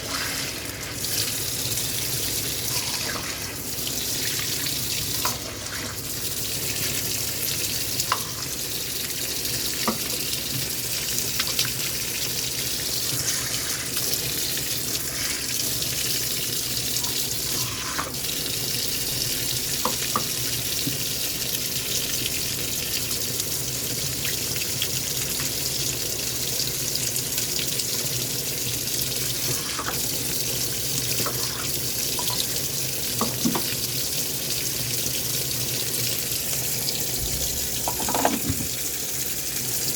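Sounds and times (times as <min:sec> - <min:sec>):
water filling washing machine: 0:00.0 - 0:39.9.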